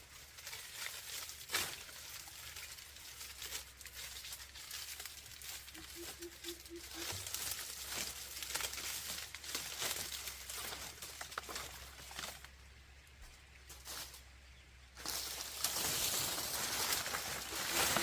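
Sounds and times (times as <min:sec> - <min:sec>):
dry palm leaves rustling: 0:00.0 - 0:18.0.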